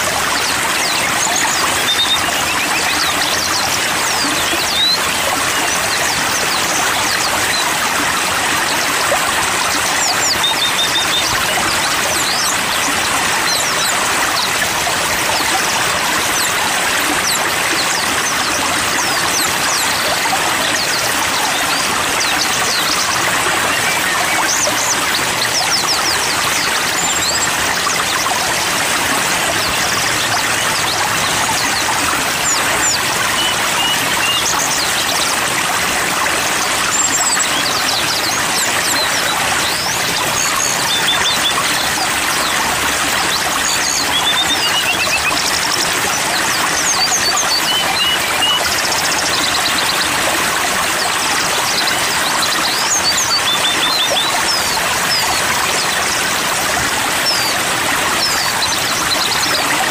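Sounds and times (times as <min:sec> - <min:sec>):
small birds chirping: 0:00.0 - 0:59.9
stream rushing: 0:00.0 - 0:59.9.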